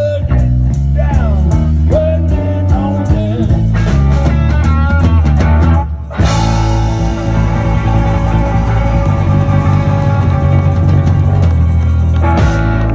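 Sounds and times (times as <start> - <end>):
electric guitar lead with bent notes: 0.0 - 12.9
live rock band: 0.0 - 12.9.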